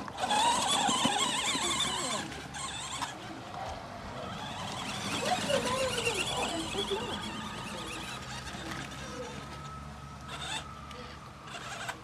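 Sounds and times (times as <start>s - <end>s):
small motor whining: 0.0s - 12.0s
voices in background: 0.1s - 12.0s.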